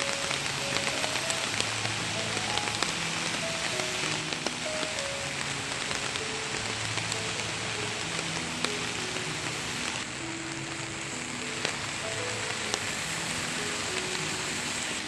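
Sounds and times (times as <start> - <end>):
heavy rain hissing: 0.0 - 15.0
soft background music: 0.0 - 15.0.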